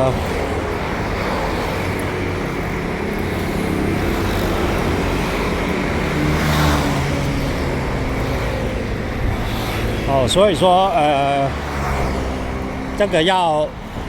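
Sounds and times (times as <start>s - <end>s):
road traffic noise: 0.0s - 14.0s
vehicle passing: 0.0s - 14.0s.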